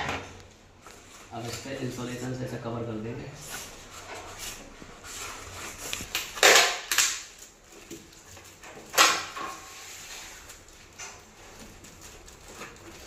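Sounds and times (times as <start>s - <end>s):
insulation and tape rustling: 0.0s - 2.7s, 3.3s - 13.0s.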